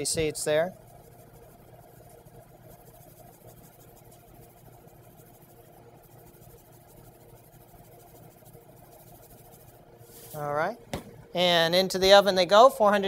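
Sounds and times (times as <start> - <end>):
low room tone hum: 0.0 - 13.0.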